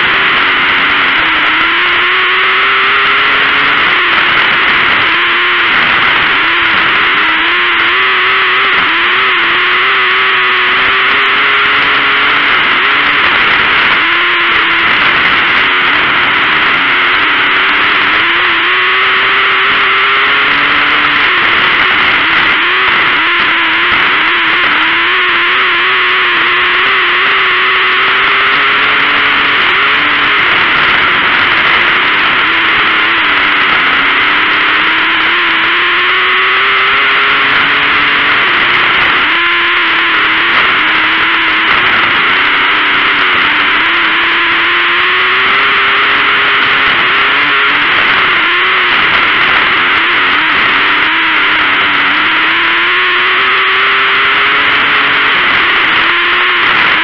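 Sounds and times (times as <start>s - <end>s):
harsh racing car engine: 0.0s - 57.0s
track noise: 0.0s - 57.0s
wind drone: 0.0s - 57.0s.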